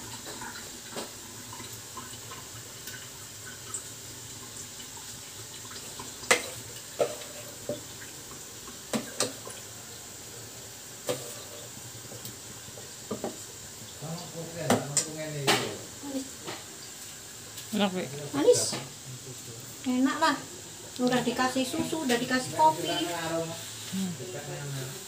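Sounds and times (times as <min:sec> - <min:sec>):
water boiling with a hiss: 0:00.0 - 0:25.0.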